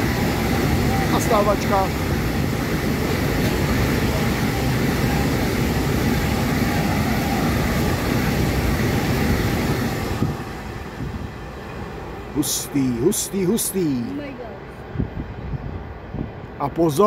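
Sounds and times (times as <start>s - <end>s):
freight train rumbling past: 0.0s - 17.0s
wheels rushing on rails: 0.0s - 17.0s.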